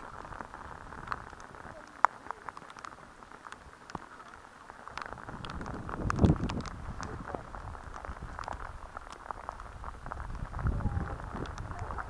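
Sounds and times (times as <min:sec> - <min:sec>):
water drips and splashes: 0:00.0 - 0:12.0.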